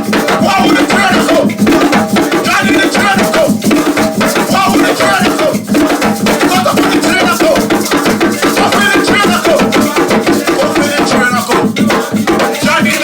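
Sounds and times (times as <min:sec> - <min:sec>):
group drumming: 0:00.0 - 0:13.0
shaken rattles: 0:00.0 - 0:13.0
voices singing: 0:00.0 - 0:13.0.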